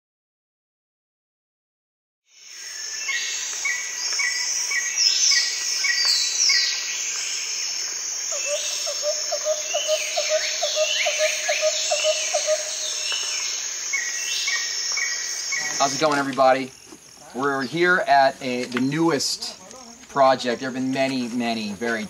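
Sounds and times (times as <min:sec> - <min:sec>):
insects buzzing: 0:02.3 - 0:22.0
bird calls: 0:02.6 - 0:20.8.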